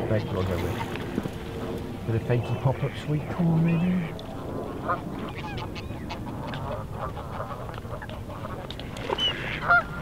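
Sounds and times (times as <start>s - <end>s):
waterfowl calling: 0.0s - 1.3s, 2.5s - 10.0s.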